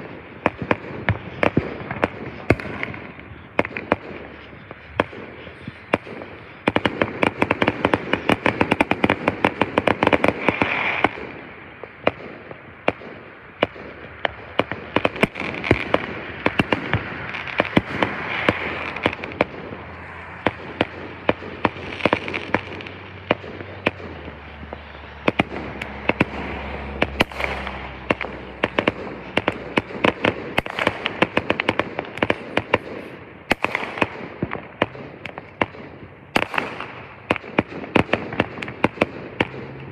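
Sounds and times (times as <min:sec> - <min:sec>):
firework bursts and crackling: 0:00.0 - 0:39.9.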